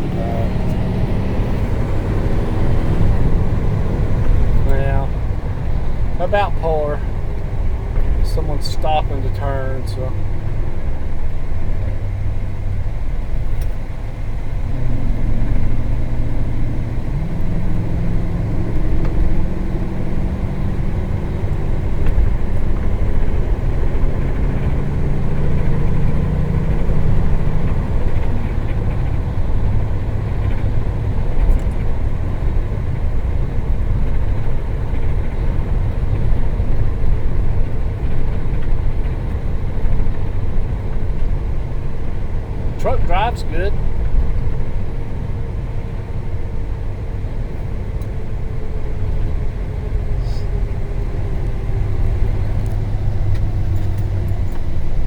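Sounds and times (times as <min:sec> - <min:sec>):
truck engine and road rumble: 0:00.0 - 0:55.0.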